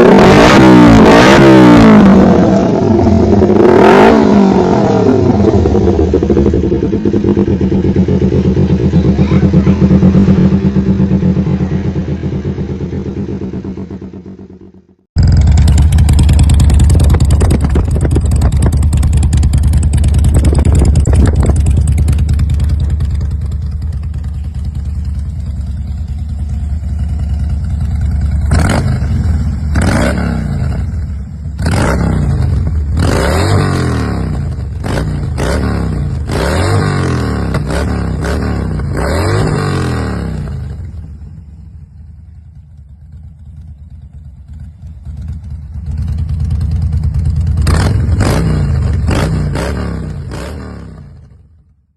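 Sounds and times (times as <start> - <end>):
motorcycle idling and revving: 0.0 - 51.9.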